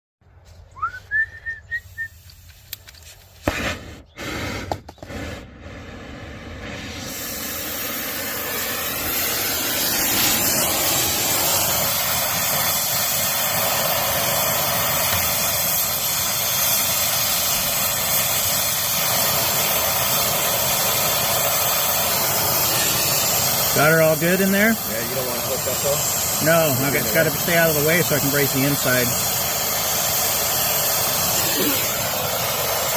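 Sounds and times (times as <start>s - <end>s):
brazing torch flame hissing: 1.8s - 32.9s.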